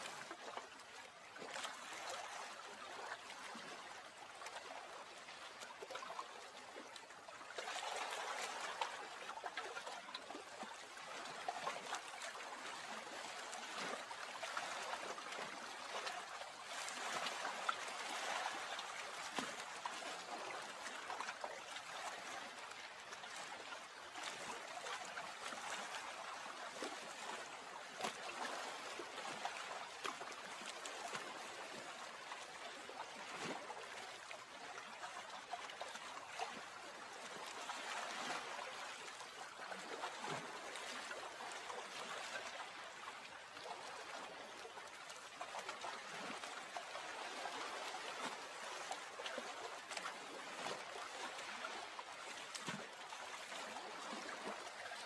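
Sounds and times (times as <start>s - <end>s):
lake water lapping: 0.0s - 55.0s.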